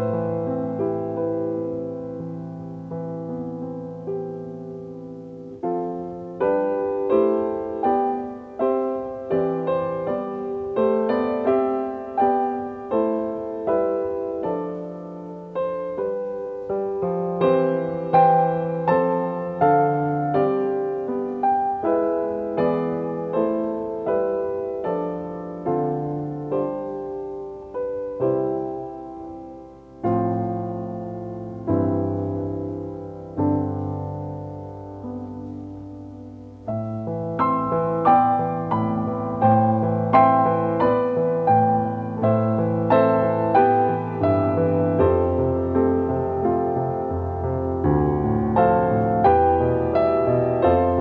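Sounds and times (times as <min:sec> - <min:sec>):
slow solo piano: 0:00.0 - 0:51.0.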